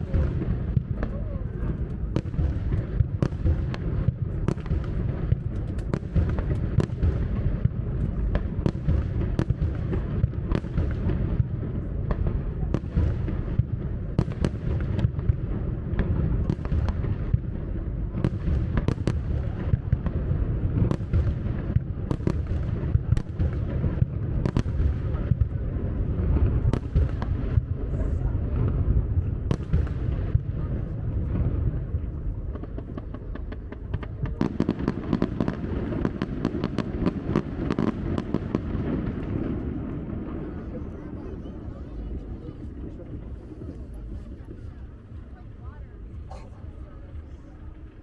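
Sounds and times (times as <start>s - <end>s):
fireworks bangs and cracks: 0.0s - 46.3s.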